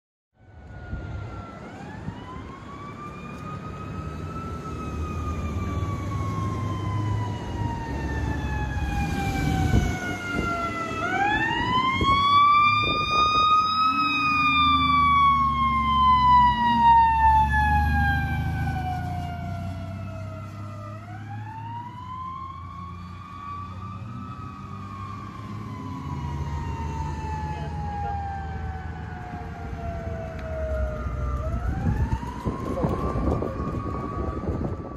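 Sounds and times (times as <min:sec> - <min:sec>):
fire engine siren wailing: 0:00.4 - 0:34.9
truck engine and tyres rumbling: 0:00.4 - 0:34.9.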